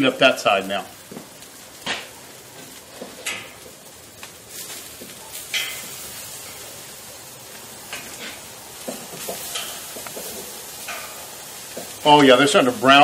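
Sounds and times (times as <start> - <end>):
meat sizzling on a grill: 0.0 - 13.0
steak turner scraping a grate: 1.3 - 13.0.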